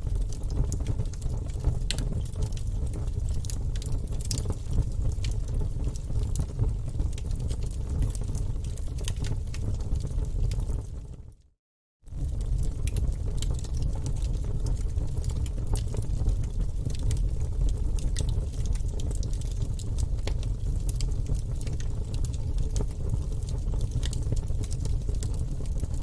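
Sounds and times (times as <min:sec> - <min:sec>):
low rumble of flames: 0:00.0 - 0:11.4, 0:12.0 - 0:26.0
logs crackling and popping: 0:00.2 - 0:10.9, 0:12.1 - 0:26.0.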